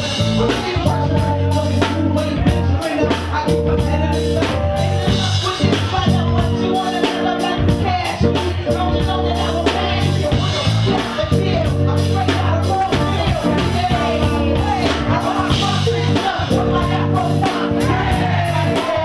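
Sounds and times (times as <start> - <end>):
hip-hop beat with deep bass: 0.0 - 19.0
woman rapping into microphone: 0.2 - 19.0.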